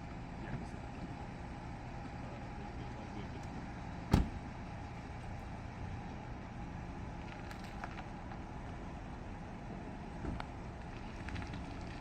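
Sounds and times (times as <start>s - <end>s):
vehicles rumbling on street: 0.0s - 12.0s.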